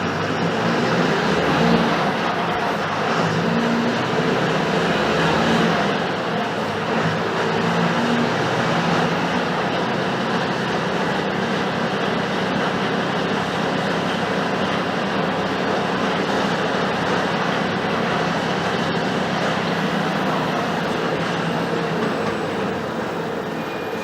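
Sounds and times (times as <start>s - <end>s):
bus diesel engine rumbling: 0.0s - 24.0s
road noise: 0.0s - 24.0s.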